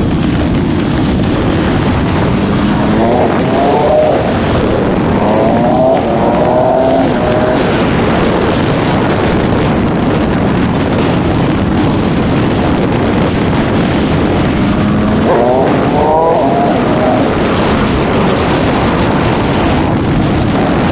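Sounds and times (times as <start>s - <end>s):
motorcycle engine accelerating: 0.0s - 20.9s
wind noise on microphone: 0.0s - 20.9s.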